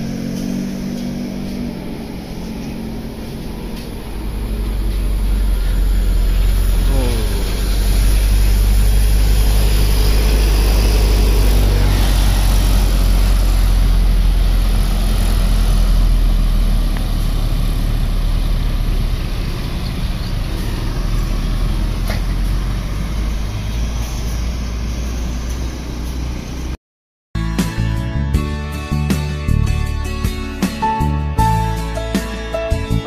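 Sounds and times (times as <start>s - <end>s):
coach engine rumbling past: 0.0s - 26.8s.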